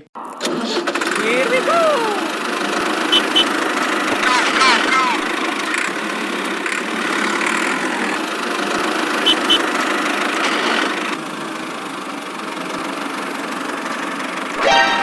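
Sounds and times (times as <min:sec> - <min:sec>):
toy tractor motor humming: 0:00.5 - 0:14.5.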